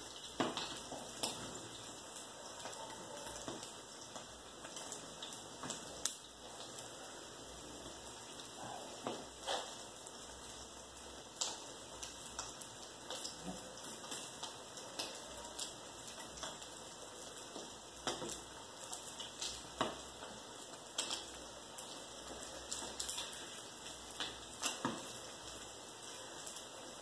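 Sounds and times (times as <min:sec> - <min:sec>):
omelette sizzling in pan: 0:00.0 - 0:27.0.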